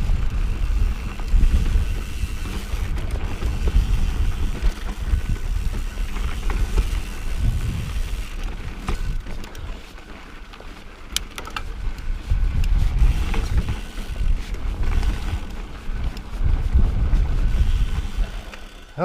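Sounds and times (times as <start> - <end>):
wind rumble on microphone: 0.0 - 9.8, 11.6 - 18.6
bike rattling and clicking: 0.0 - 19.0
bike tyres crunching on dirt: 0.0 - 19.0.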